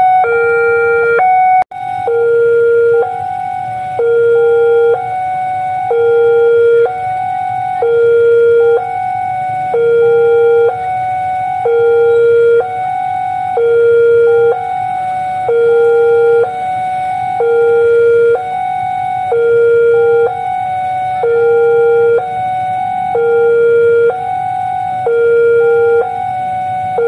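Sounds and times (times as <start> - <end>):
level crossing two-note alarm: 0.0 - 27.0.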